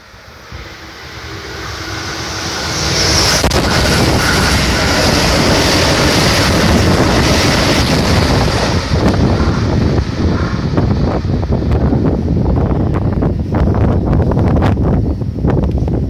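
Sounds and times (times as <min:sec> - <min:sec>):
express train passing: 0:00.0 - 0:16.0
wind buffeting microphone: 0:00.4 - 0:16.0.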